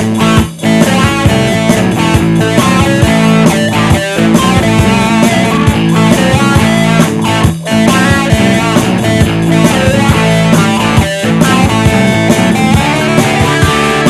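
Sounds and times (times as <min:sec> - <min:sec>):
guitar-led instrumental music: 0:00.0 - 0:14.0.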